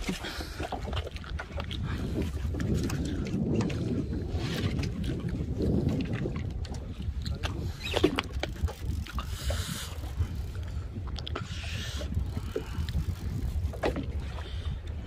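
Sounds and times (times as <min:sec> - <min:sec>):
boat engine low rumble: 0:00.0 - 0:15.0
waves washing against hull: 0:00.0 - 0:15.0.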